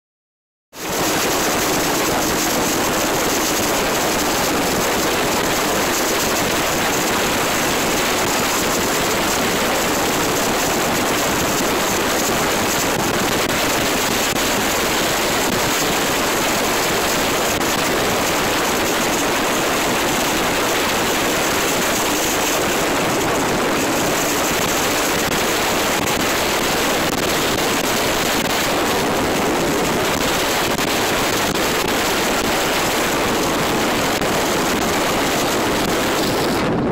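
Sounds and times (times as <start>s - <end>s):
wind and road noise: 0.7s - 36.9s.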